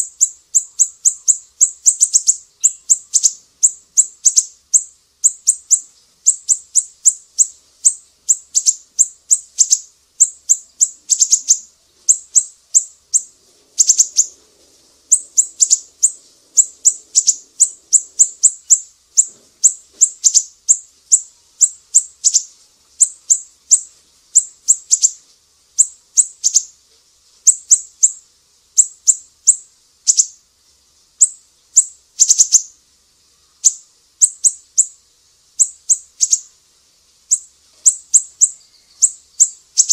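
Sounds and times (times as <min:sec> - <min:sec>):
songbird chips and calls: 0:00.0 - 0:14.4, 0:15.1 - 0:25.2, 0:25.8 - 0:26.7, 0:27.4 - 0:28.2, 0:28.8 - 0:30.4, 0:31.2 - 0:32.7, 0:33.6 - 0:35.0, 0:35.6 - 0:36.5, 0:37.3 - 0:39.9.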